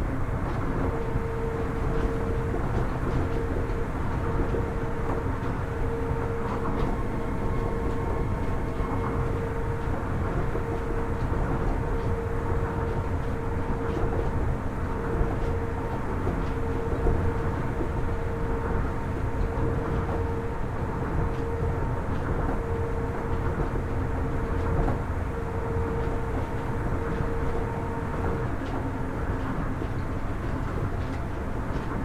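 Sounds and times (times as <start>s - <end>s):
monorail train rumble: 0.0s - 32.0s.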